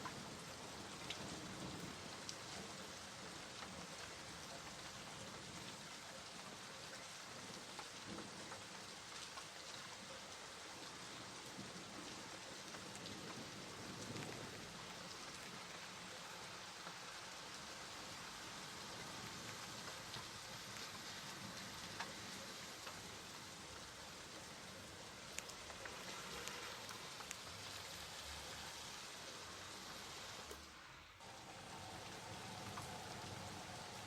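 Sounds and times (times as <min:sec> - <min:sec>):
individual raindrop ticks: 0:00.0 - 0:28.6, 0:31.3 - 0:34.0
rain patter: 0:00.0 - 0:34.0.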